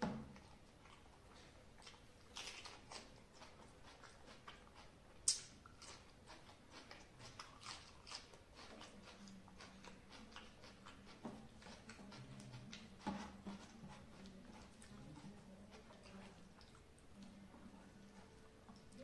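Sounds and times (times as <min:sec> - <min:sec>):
fingers mixing food on plate: 0:00.0 - 0:19.0
low steady hum: 0:00.0 - 0:19.0
man chewing food: 0:00.0 - 0:19.0.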